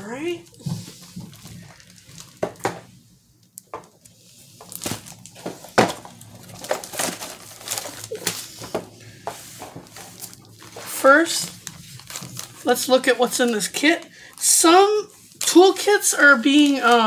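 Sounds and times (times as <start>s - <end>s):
plastic wrapping crinkling: 0.2s - 17.0s.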